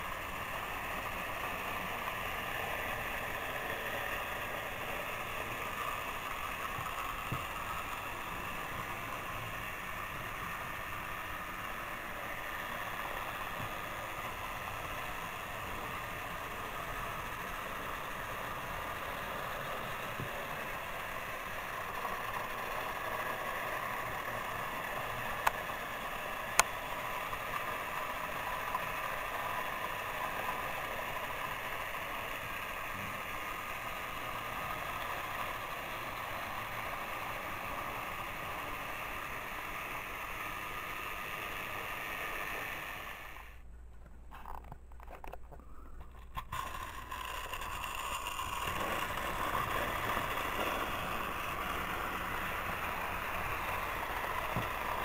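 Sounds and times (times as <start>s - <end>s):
toy train motors whirring: 0.0s - 43.6s, 44.3s - 55.0s
wheels rattling over plastic track: 0.0s - 55.0s.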